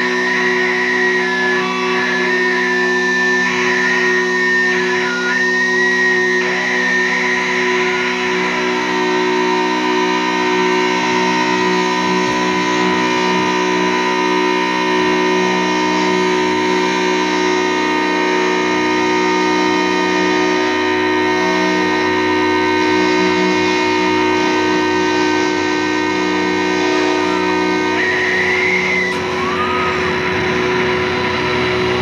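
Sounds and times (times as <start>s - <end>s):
distorted guitars droning chord: 0.0s - 32.0s.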